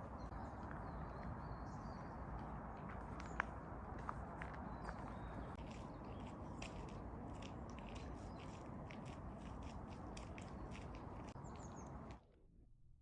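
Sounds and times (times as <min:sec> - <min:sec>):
crunchy footsteps on forest path: 0:00.0 - 0:12.1.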